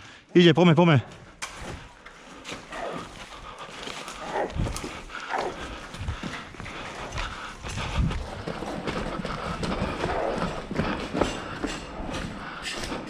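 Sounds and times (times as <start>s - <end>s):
footsteps of people running: 2.2s - 13.0s.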